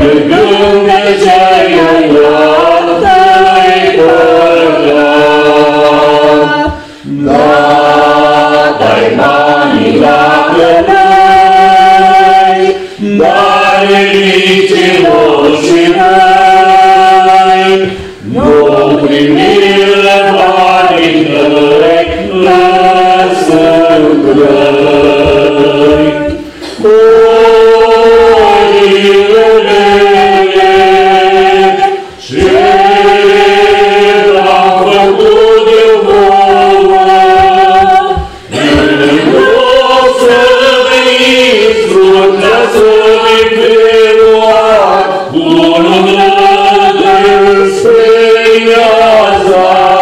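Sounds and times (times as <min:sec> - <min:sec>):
choir singing a hymn: 0:00.0 - 0:50.0.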